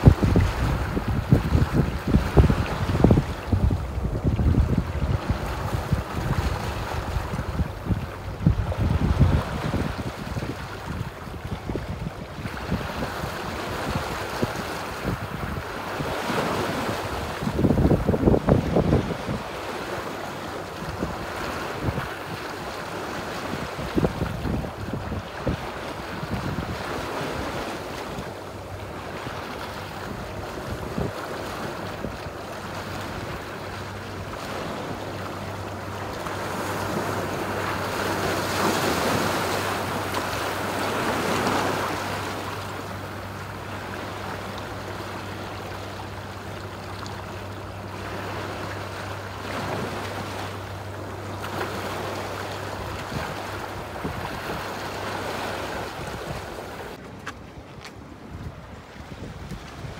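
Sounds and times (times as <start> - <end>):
steady low hum: 0.0 - 59.9
waves washing over rocks: 0.0 - 59.9.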